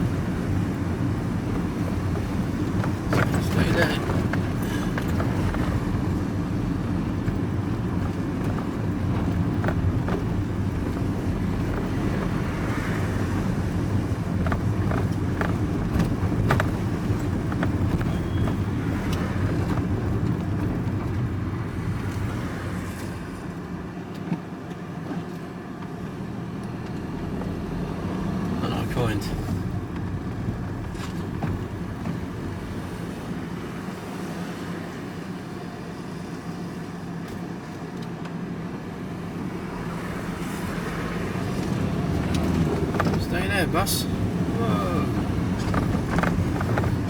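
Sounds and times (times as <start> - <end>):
engine and road rumble in cab: 0.0 - 47.0.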